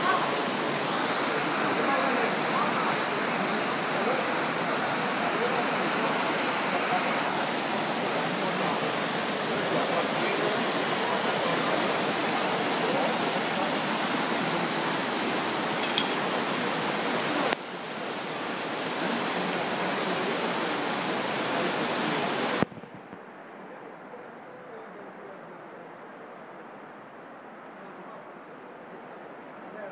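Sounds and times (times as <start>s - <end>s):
floodwater rushing down street: 0.0s - 29.9s.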